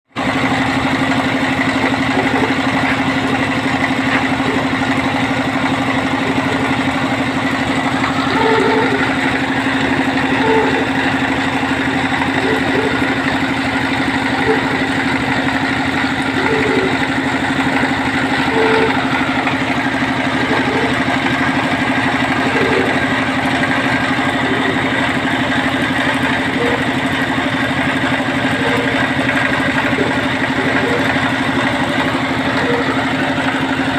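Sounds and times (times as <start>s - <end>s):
drilling machine engine droning: 0.1s - 33.9s.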